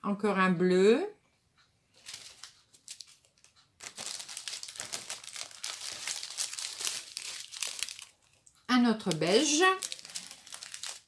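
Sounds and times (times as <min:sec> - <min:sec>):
plastic bags crinkling: 0:02.0 - 0:11.0.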